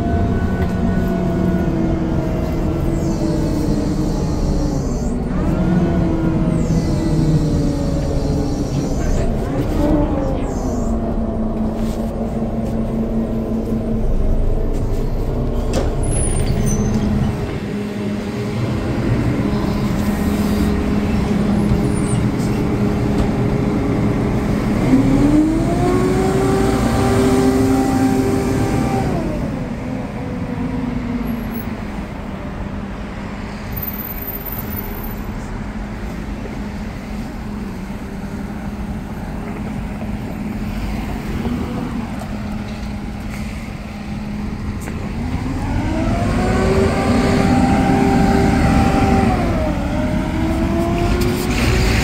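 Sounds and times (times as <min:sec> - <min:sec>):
vehicle accelerating: 0:00.0 - 0:30.3, 0:39.4 - 0:52.0
bus pulling away: 0:00.0 - 0:52.0
passing cars: 0:00.0 - 0:52.0.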